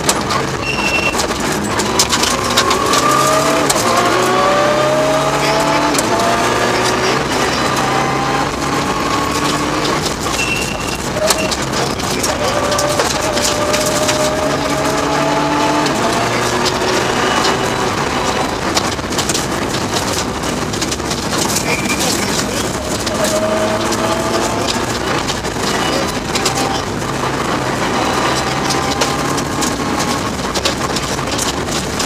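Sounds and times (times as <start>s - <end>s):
car engine accelerating: 0.0s - 32.0s
sharp clicks: 0.0s - 32.0s.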